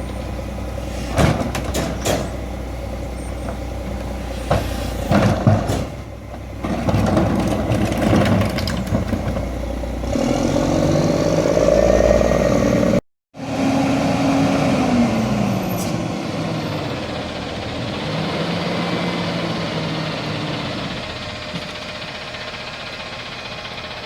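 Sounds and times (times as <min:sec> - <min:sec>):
garbage truck engine running: 0:00.0 - 0:24.0.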